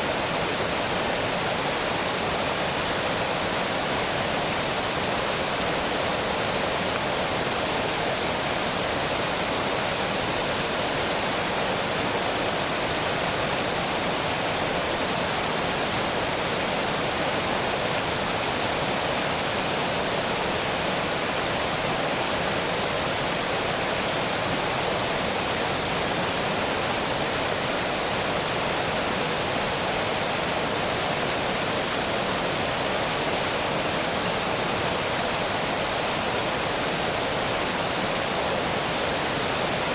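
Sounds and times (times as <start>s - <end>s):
water rushing over small dam: 0.0s - 39.9s.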